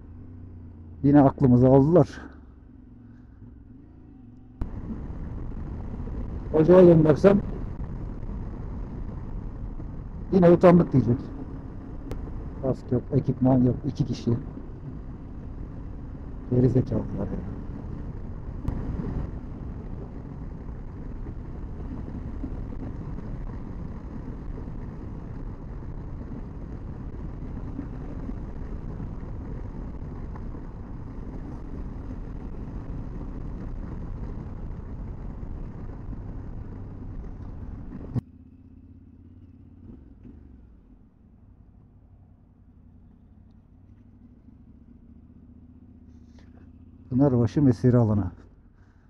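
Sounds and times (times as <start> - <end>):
motorcycle engine and road rumble: 0.0 - 49.0.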